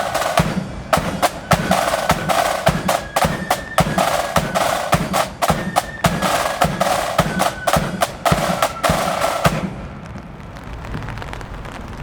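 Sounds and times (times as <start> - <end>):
bass drum beats: 0.0 - 9.8
snare drum rolls: 0.0 - 10.0
faint rain patter: 0.0 - 12.0.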